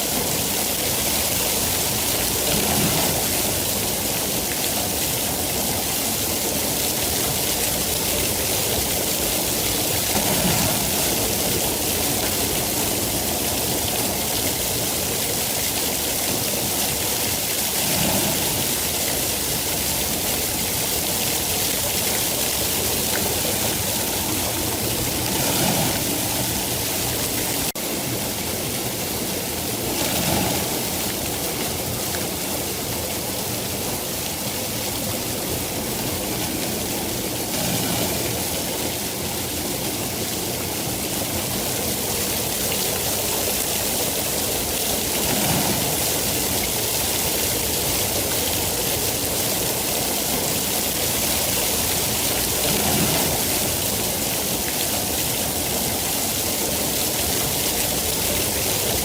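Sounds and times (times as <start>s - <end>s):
heavy rainfall hissing: 0.0s - 59.0s.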